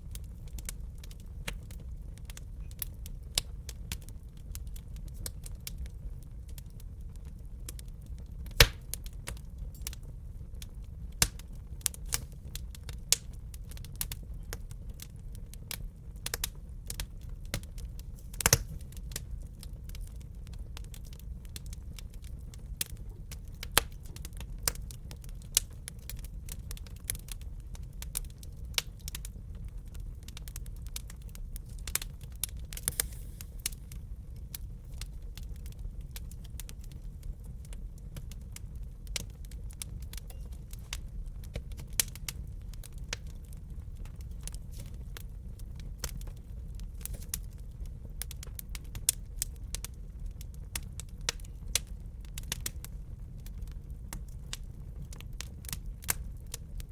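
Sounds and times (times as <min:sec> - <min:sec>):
low rumble of burning: 0:00.0 - 0:56.9
wood fire crackling: 0:00.0 - 0:56.9
fire pops and snaps: 0:00.1 - 0:56.9.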